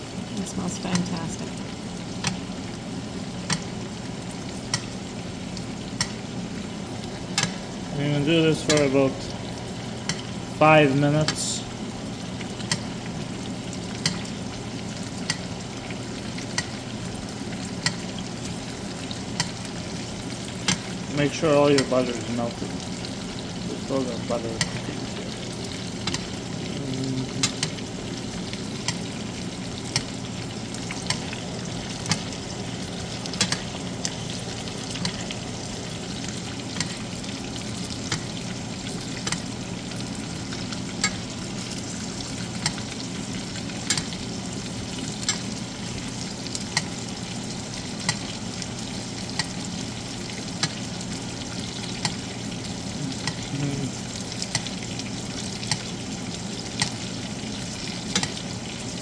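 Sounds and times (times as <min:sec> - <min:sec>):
steaks sizzling in butter: 0:00.0 - 0:59.0.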